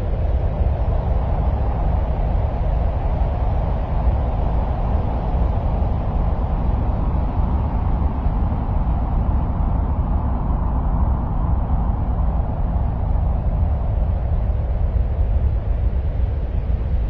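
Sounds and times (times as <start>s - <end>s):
deep ambient white noise: 0.0s - 17.0s.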